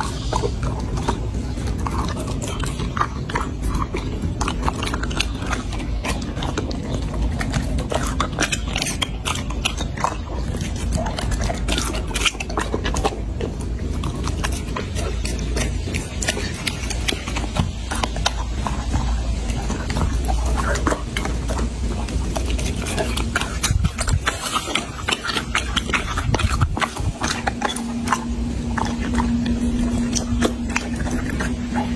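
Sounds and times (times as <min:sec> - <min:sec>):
dog chewing meat: 0:00.0 - 0:31.9.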